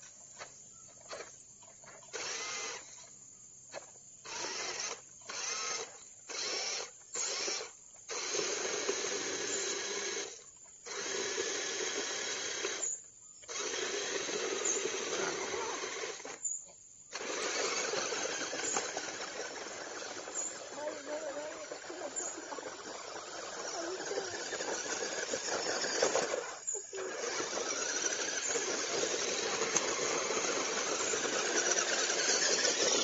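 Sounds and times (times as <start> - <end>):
electric motor whining: 2.0 - 3.1, 3.7 - 33.0.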